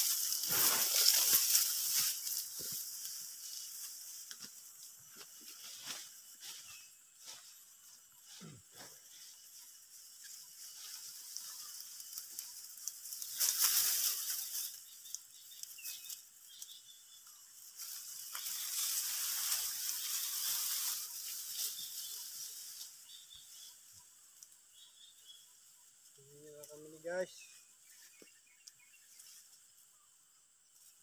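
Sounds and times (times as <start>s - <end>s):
wind rustling through rice stalks: 0.0s - 31.0s.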